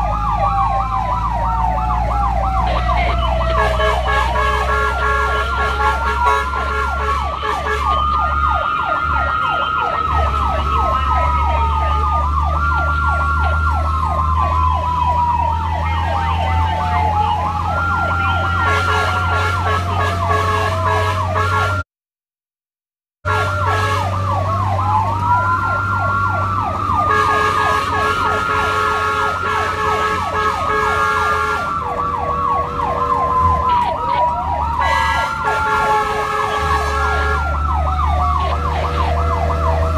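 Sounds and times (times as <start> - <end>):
low engine rumble: 0.0 - 21.4, 23.5 - 39.9
fire engine siren wailing and yelping: 0.0 - 21.9, 23.3 - 39.9.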